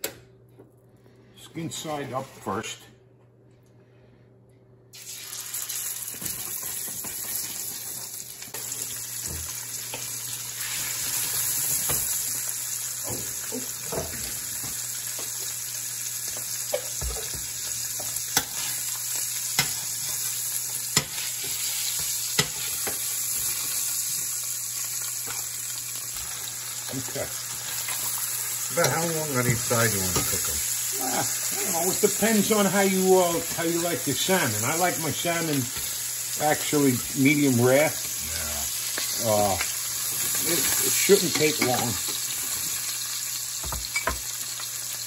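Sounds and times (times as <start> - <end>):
fish sizzling in a pan: 5.0 - 45.0.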